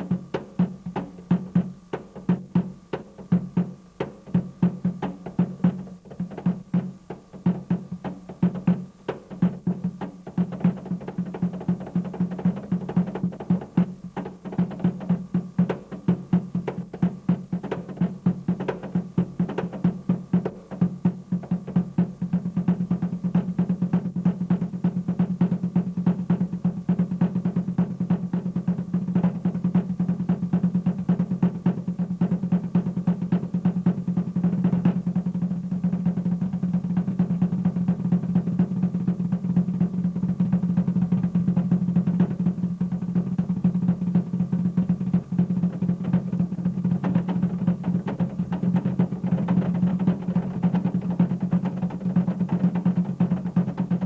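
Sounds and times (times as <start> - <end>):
fast drumming: 0.0 - 54.0.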